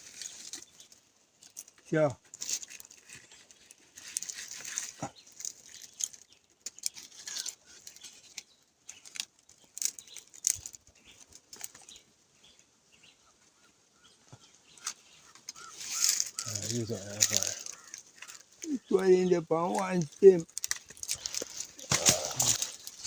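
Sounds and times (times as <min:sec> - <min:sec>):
dry plant material rustling: 0:00.0 - 0:12.7, 0:14.6 - 0:23.0.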